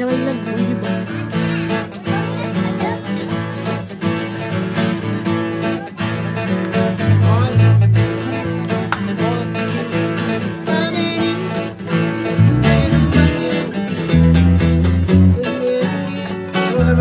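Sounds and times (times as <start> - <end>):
acoustic guitars strumming: 0.0 - 17.0
electric guitar through amp: 0.0 - 17.0.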